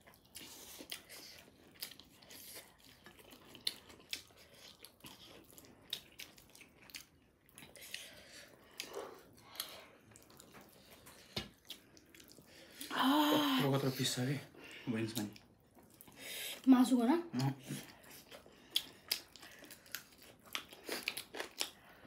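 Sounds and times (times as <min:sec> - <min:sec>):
chewing and eating mouth sounds: 0:00.0 - 0:22.0.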